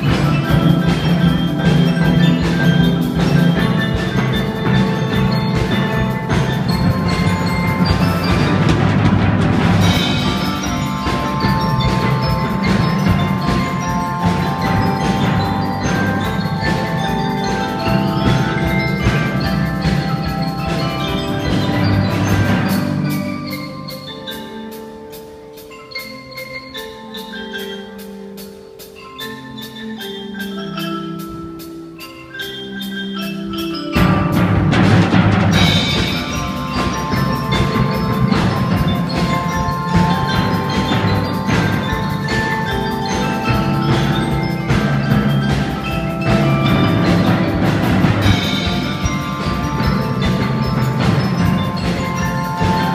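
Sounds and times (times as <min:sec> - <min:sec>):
drums: 0:00.0 - 0:52.9
fast steady ticking: 0:00.0 - 0:52.9
marimba melody: 0:00.0 - 0:52.9.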